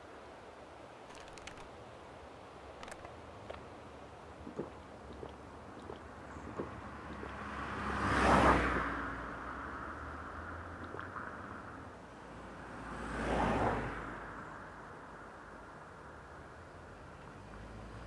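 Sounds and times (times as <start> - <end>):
vehicles passing on road: 0.0 - 18.0.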